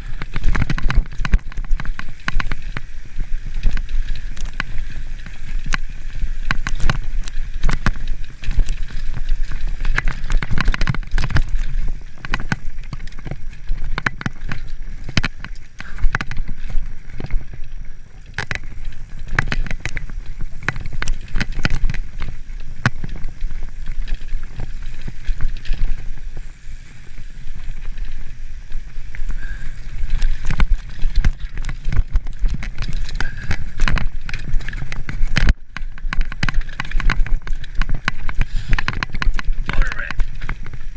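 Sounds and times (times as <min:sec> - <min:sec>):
mountain bike rattling on trail: 0:00.0 - 0:40.9
wind on microphone: 0:00.0 - 0:40.9.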